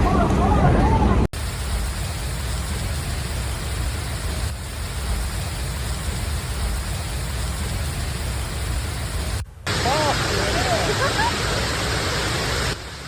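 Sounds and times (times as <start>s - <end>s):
heavy rain falling: 0.1s - 13.0s.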